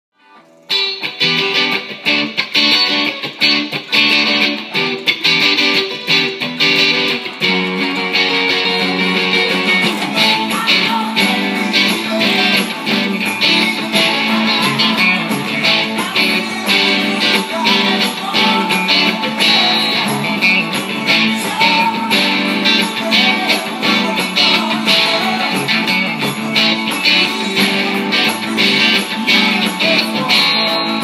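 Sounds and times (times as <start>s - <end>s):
electric guitar rock riff: 0.2s - 31.0s.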